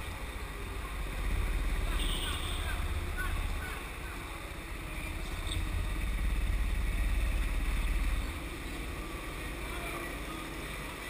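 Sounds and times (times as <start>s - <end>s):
go-kart engine droning: 0.4s - 10.7s.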